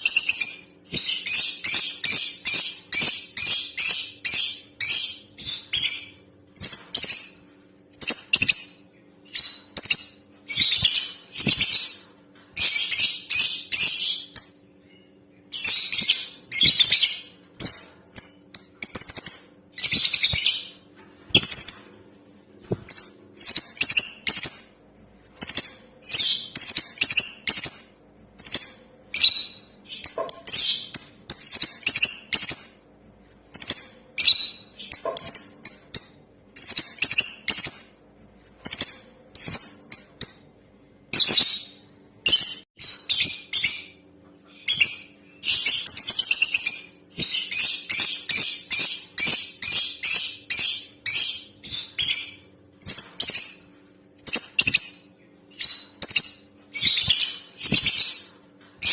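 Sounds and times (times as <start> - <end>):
lovebird chirping and chattering: 0.0 - 22.1, 22.9 - 24.8, 25.4 - 32.9, 33.5 - 58.9.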